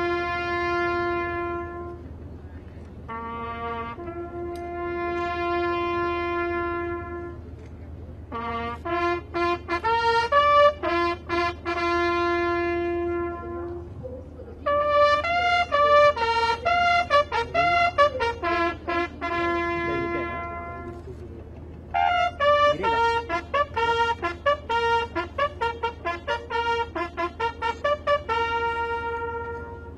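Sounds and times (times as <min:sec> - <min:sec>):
solo bugle call: 0:00.0 - 0:02.2, 0:03.0 - 0:07.5, 0:08.3 - 0:14.0, 0:14.6 - 0:21.0, 0:21.9 - 0:29.9.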